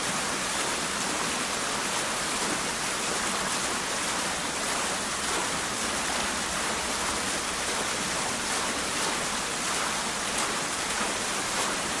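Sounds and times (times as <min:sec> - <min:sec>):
water fountain splashing: 0:00.0 - 0:12.0.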